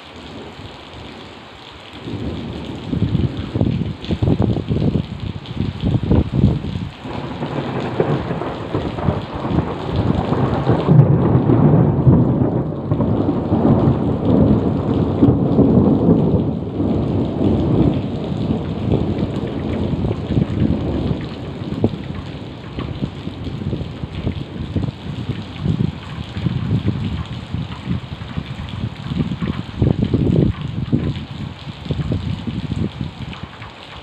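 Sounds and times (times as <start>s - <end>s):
heavy rain: 0.0s - 34.0s
rolling thunder: 2.0s - 33.4s.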